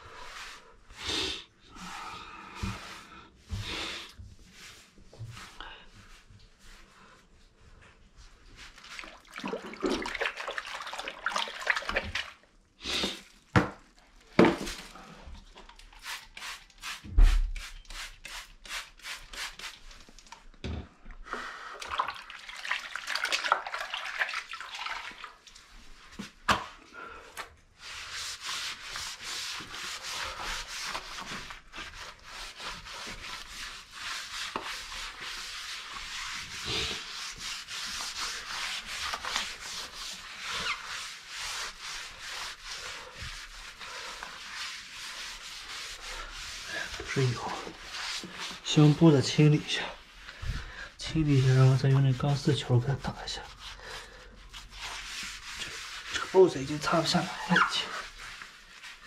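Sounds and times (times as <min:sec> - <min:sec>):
hand scrubbing a surface: 0:00.0 - 0:20.2, 0:21.3 - 0:59.0.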